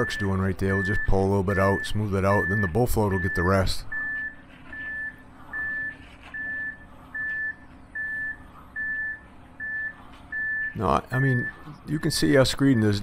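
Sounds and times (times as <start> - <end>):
backup alarm beeping: 0.0 - 13.0
faint low engine hum: 0.0 - 13.0.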